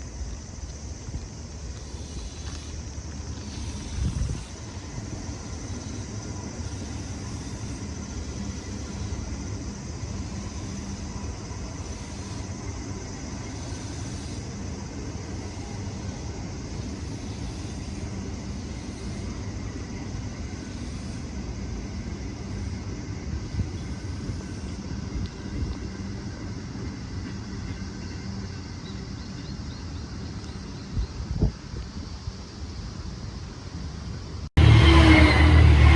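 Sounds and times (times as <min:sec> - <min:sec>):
electric train rumble: 0:00.0 - 0:35.9
storm wind: 0:00.0 - 0:35.9.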